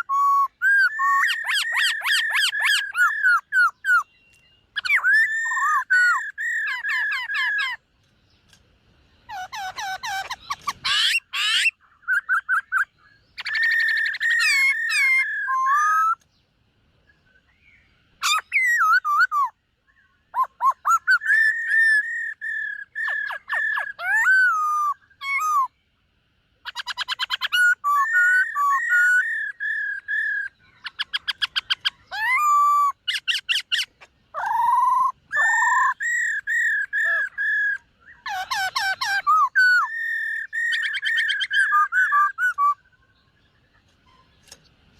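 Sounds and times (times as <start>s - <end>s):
bird whistling and trilling: 0.0s - 7.9s, 9.2s - 16.2s, 17.1s - 25.8s, 26.6s - 44.6s.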